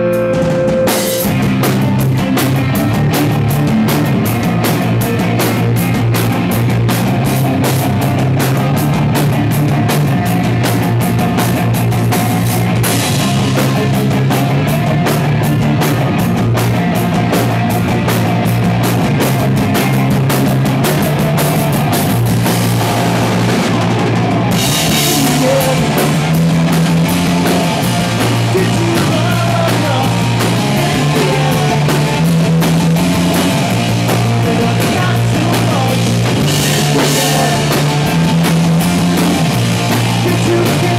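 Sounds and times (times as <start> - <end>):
fast drum beat: 0.0 - 40.9
rock band playing: 0.0 - 40.9.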